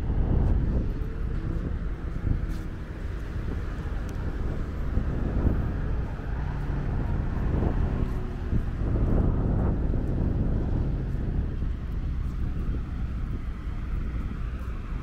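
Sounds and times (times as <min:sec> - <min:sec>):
traffic rumble on busy road: 0:00.0 - 0:15.0
vehicles passing: 0:00.0 - 0:15.0.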